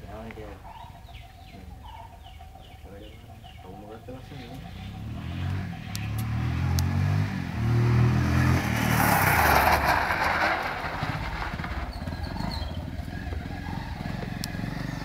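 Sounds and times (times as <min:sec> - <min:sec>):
motorcycle engine passing by: 0:00.1 - 0:15.0.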